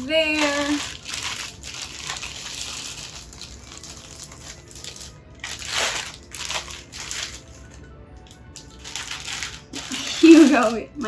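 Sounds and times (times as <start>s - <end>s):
plastic bag crinkling and rustling: 0.2s - 11.0s.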